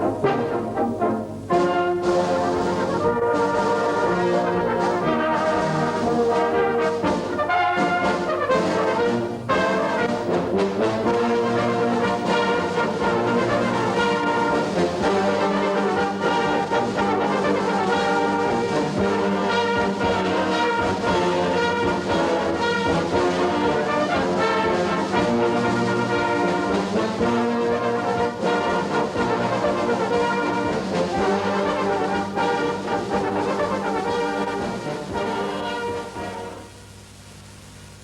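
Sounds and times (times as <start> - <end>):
brass music with sustained chords: 0.0 - 38.0.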